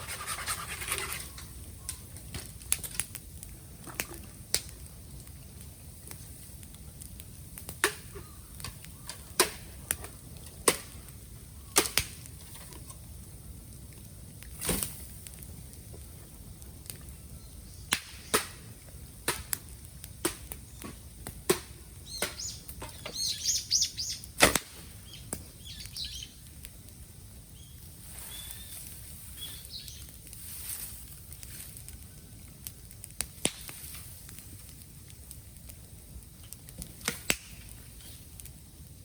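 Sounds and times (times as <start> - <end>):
bamboo popping in a bonfire: 0.0 - 39.0
faint steady fire hiss: 0.0 - 39.0
sputtering crackles: 0.0 - 39.0.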